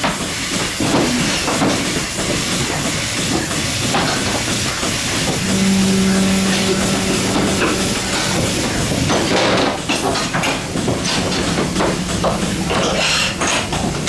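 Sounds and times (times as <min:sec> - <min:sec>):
metallic clanks and clatter: 0:00.0 - 0:14.0
milking machinery hissing: 0:00.0 - 0:14.0.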